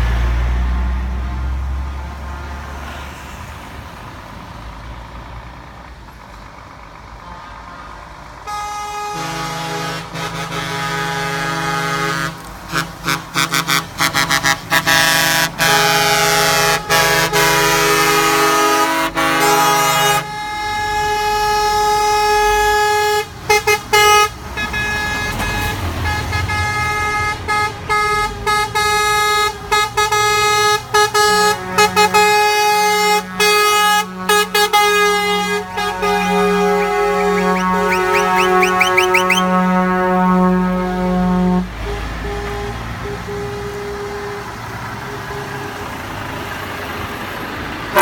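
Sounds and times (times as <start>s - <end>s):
truck air horns blasting: 7.2s - 47.0s.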